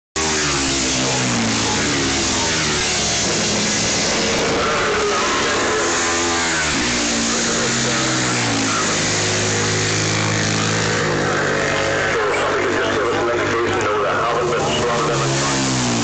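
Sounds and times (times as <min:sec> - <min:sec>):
racing motorcycle engines at high revs: 0:00.2 - 0:16.0.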